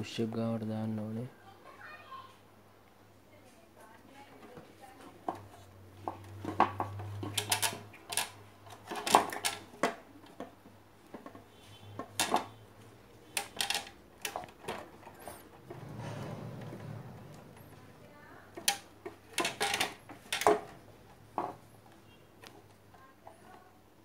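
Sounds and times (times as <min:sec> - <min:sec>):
small hard parts clattering: 0:04.4 - 0:23.6.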